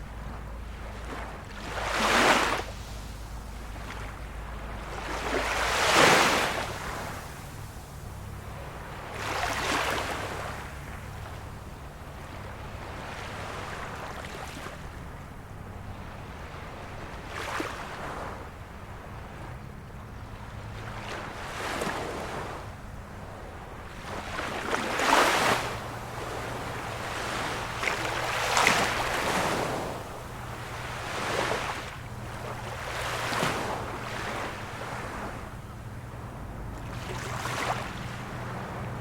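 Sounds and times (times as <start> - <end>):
small waves washing in: 0.0 - 39.0.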